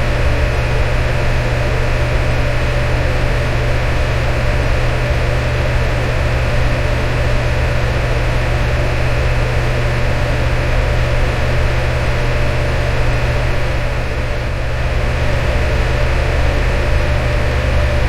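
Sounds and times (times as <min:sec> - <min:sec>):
electric fan running: 0:00.0 - 0:18.0.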